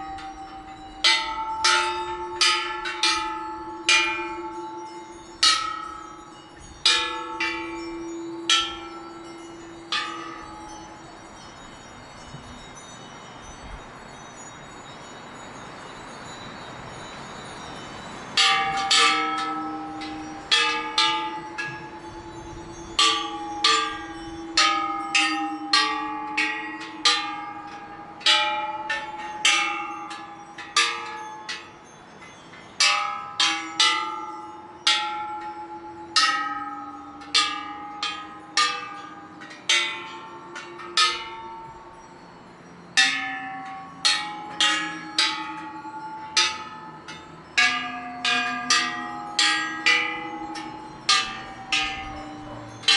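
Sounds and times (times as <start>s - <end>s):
temple bells ringing: 0.0s - 52.9s.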